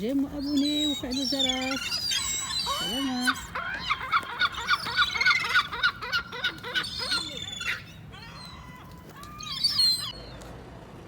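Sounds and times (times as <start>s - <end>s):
gulls calling: 0.0s - 10.3s.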